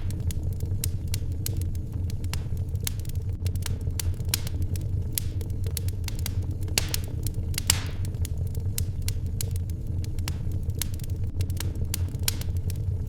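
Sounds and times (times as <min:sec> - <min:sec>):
low rumble: 0:00.0 - 0:13.0
wood fire crackling and popping: 0:00.0 - 0:13.0.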